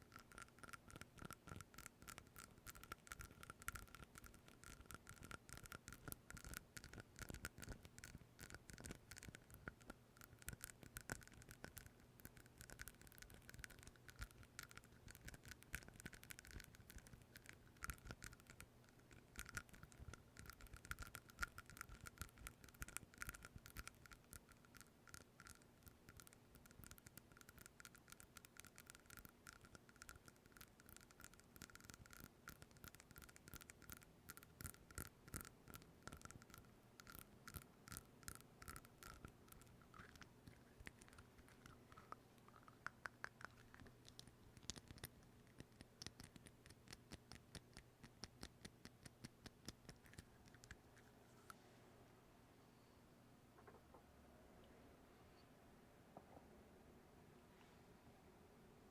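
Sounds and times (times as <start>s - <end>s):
scratching and tapping on microphone: 0.0s - 50.8s, 53.6s - 54.0s.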